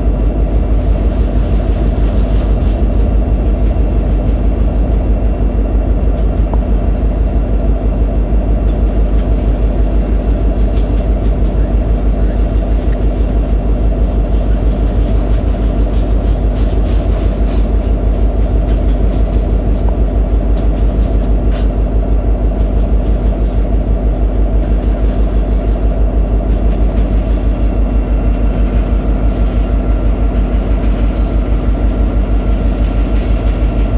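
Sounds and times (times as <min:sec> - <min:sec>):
freight train rumbling past: 0:00.0 - 0:33.9.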